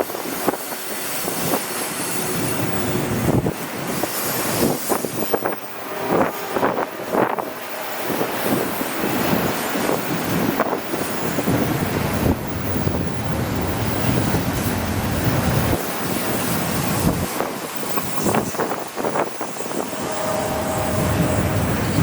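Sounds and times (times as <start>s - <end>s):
freight train wheels rumbling: 0.0s - 22.0s
wheels clacking over rail joints: 0.0s - 22.0s.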